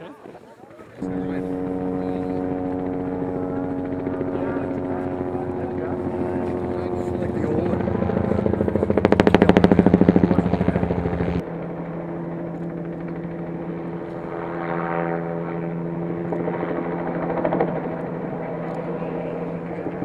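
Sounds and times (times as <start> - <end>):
helicopter rotor chopping: 0.7 - 20.0.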